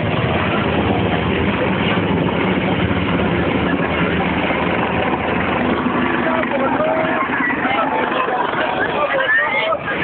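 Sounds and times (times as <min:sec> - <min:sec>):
helicopter flying overhead: 0:00.0 - 0:10.0.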